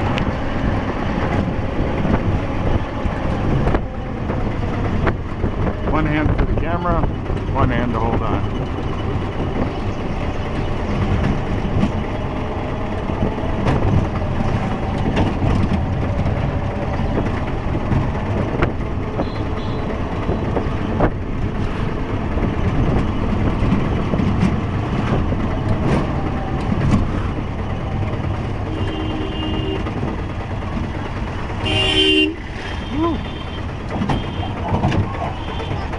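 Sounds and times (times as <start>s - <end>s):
rattles: 0.0s - 31.7s
auto-rickshaw engine running: 0.0s - 35.9s.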